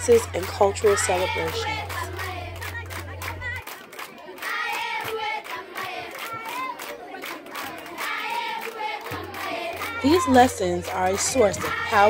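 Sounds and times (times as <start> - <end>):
children singing together: 0.0 - 2.9, 4.4 - 12.0
hand clapping: 0.0 - 12.0.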